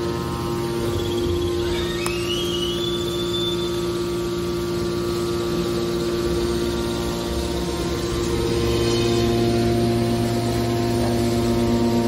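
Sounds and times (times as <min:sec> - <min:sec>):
hydraulic pump motor hum: 0:00.0 - 0:12.0
short rising whine: 0:00.0 - 0:12.0.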